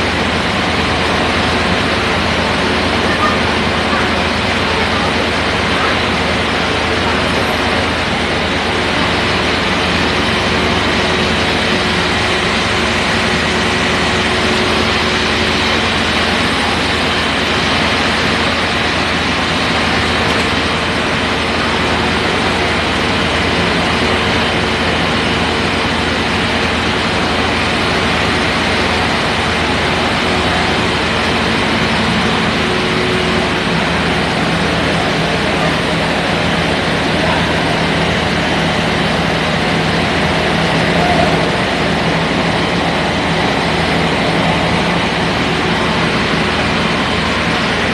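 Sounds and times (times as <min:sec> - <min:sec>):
fire truck engine idling: 0:00.0 - 0:47.9.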